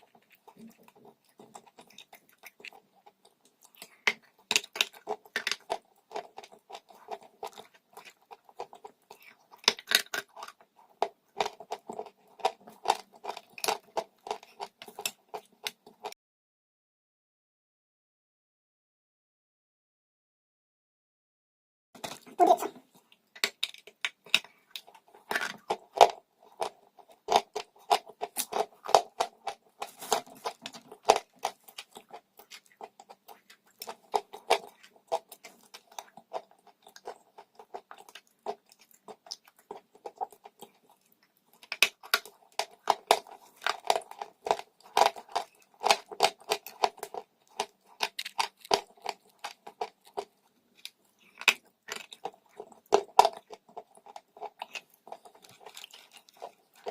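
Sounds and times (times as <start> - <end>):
person chewing crunchy chalk: 0.0 - 16.1, 22.0 - 56.9.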